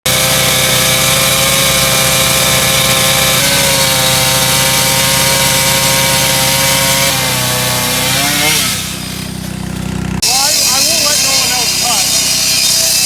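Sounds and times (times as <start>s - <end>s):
engine-driven machine running: 0.1s - 13.0s.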